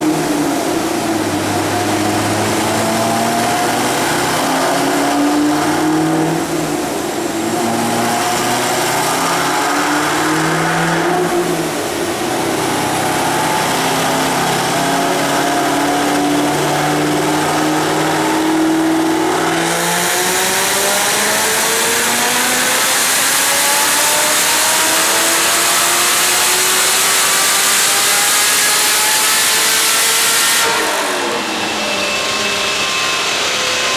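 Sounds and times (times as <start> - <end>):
car engine revving on a dyno: 0.0 - 33.9.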